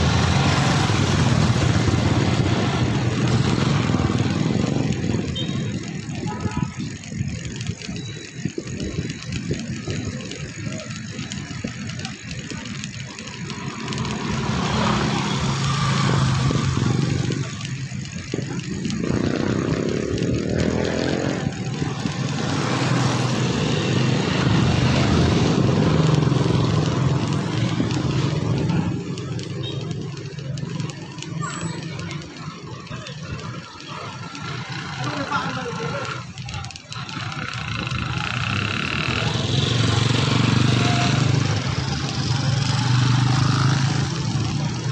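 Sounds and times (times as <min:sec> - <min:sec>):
small motorcycle engine running: 0:00.0 - 0:44.9
wind and road noise: 0:00.0 - 0:44.9.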